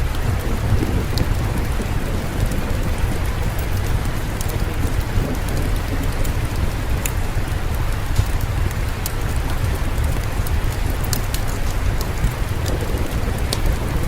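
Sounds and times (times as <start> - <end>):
deep rumble: 0.0 - 14.0
fireplace crackles: 0.0 - 14.0
steady rain: 0.0 - 14.0.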